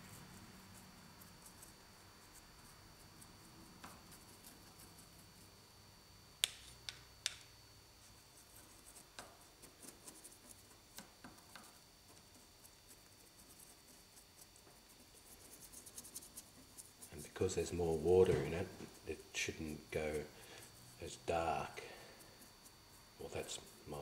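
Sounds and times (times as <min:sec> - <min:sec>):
paintbrush ticking and scratching: 0:00.0 - 0:05.6, 0:08.0 - 0:24.0.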